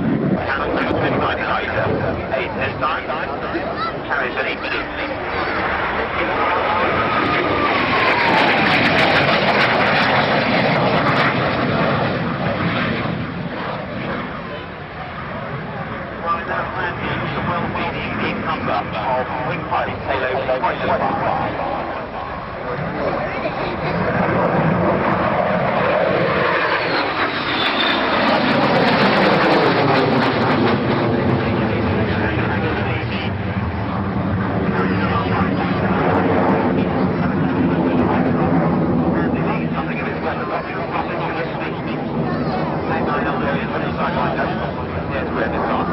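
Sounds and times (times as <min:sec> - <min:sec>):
aircraft flying past: 0:00.0 - 0:45.9.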